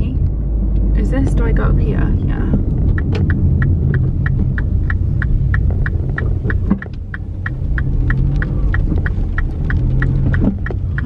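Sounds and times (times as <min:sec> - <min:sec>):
engine and tyre rumble: 0:00.0 - 0:11.0
turn signal ticking: 0:00.0 - 0:11.0.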